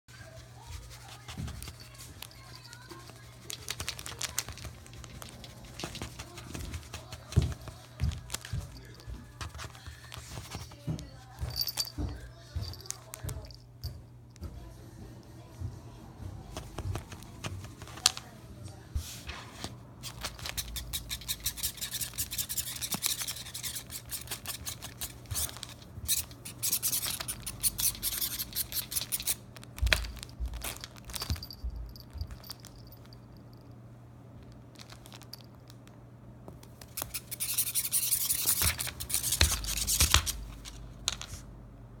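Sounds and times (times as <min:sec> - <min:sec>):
cat scratching and rustling a toy: 0:00.1 - 0:13.8, 0:14.5 - 0:33.6, 0:36.7 - 0:41.5.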